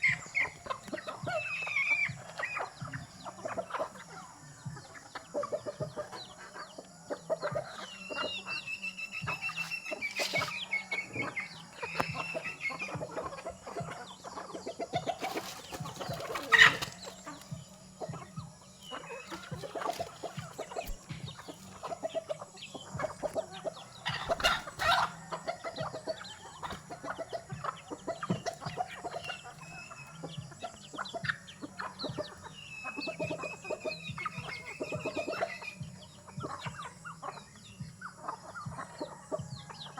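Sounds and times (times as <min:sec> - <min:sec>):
drawn-out high chicken calls: 0:00.0 - 0:37.5
chickens clucking: 0:00.0 - 0:39.9.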